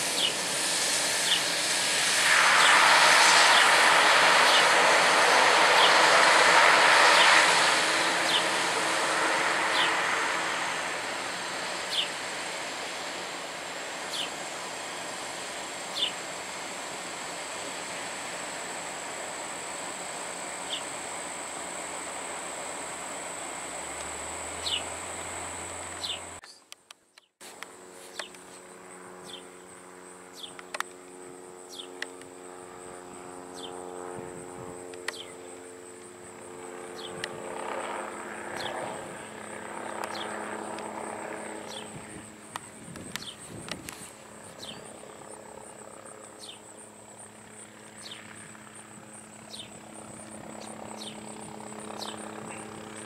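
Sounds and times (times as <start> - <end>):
distant helicopter hum: 0.0 - 53.0.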